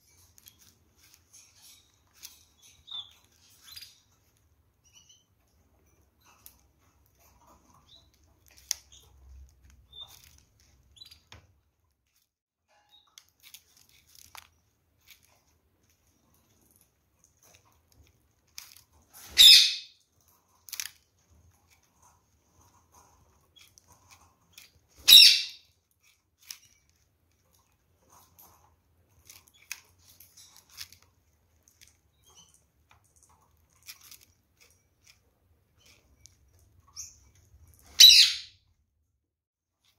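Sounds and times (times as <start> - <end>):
parakeets cracking seeds: 0.0 - 5.1, 6.2 - 11.4, 13.0 - 38.1.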